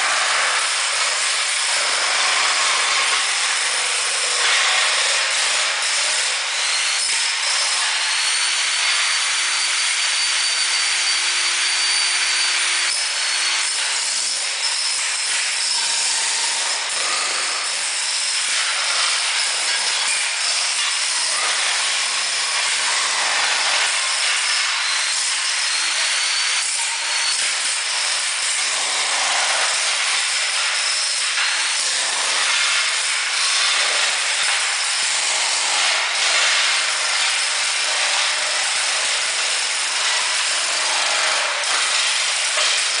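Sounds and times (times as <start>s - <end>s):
jackhammer hammering rattle: 0.0s - 8.0s, 13.7s - 25.8s, 27.1s - 43.0s.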